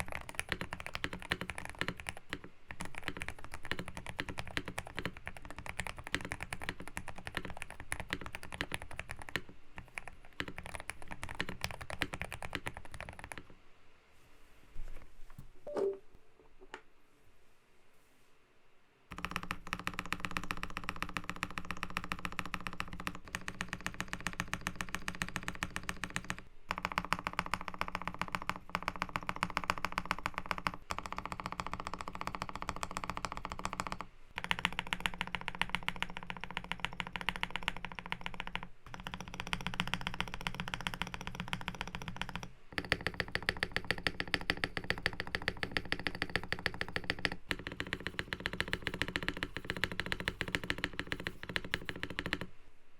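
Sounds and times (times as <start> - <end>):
mechanical keyboard typing: 0.0 - 13.5, 19.1 - 52.5.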